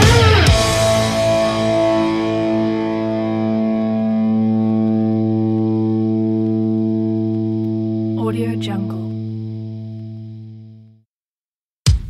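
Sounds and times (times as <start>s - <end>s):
distorted electric guitar chord: 0.0s - 10.8s.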